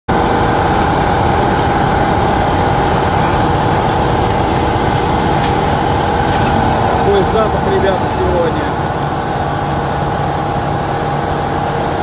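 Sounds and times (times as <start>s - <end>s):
diesel engine rumble: 0.1s - 12.0s
forestry mulcher whine: 0.1s - 12.0s.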